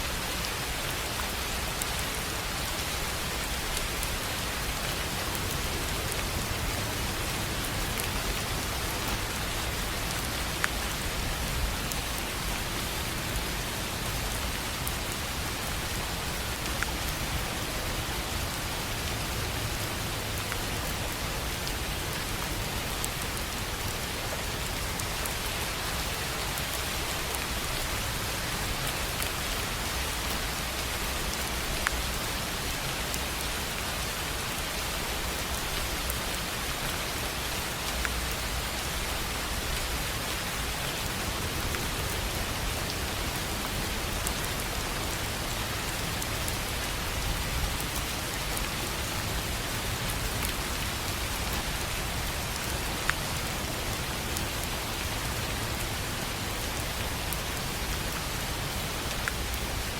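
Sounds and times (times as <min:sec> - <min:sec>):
rain on a tin roof: 0:00.0 - 0:59.9.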